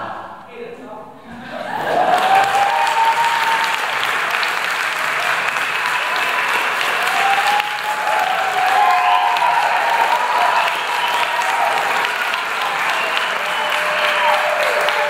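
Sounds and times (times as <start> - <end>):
audience applauding: 1.6 - 15.0.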